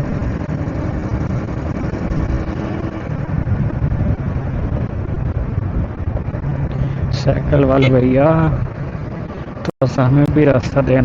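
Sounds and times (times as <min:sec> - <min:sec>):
motorcycle engine running: 0:00.0 - 0:09.5
road noise: 0:00.0 - 0:11.0.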